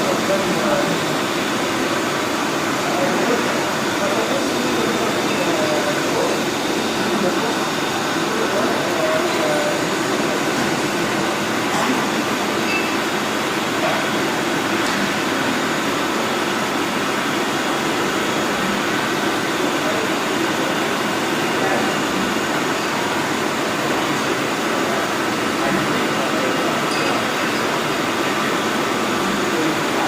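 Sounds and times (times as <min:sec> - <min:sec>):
lathe whirring: 0:00.0 - 0:30.0.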